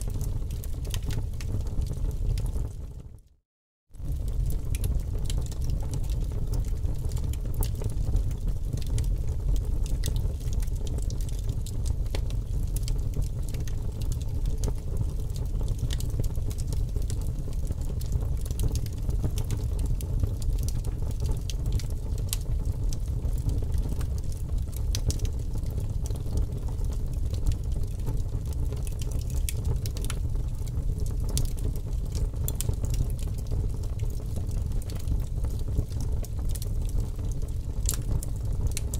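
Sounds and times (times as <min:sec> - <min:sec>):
fire crackling and popping: 0:00.0 - 0:03.0, 0:04.0 - 0:38.9
fire rumbling: 0:00.0 - 0:03.0, 0:04.0 - 0:38.9.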